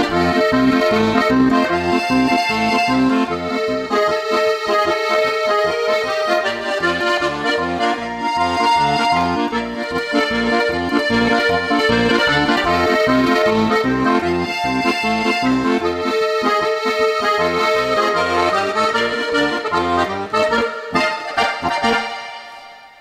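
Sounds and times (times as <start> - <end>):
accordion playing polka: 0.0 - 23.0.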